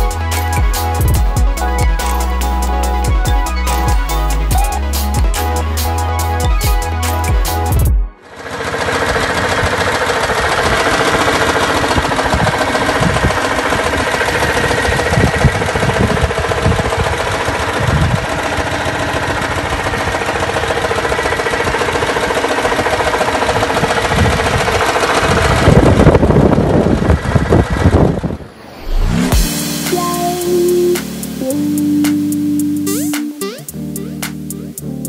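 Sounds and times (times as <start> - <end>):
car engine running: 0.0 - 34.8.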